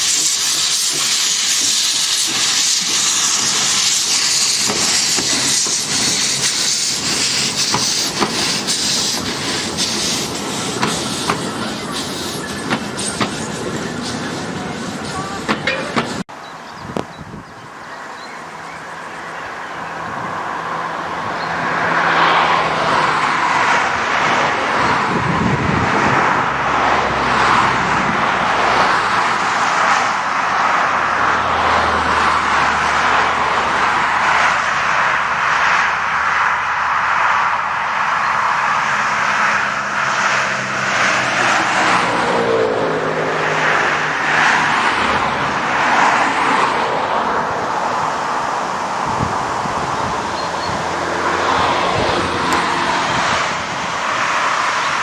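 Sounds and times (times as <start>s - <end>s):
train running: 0.0s - 17.2s, 17.8s - 55.0s.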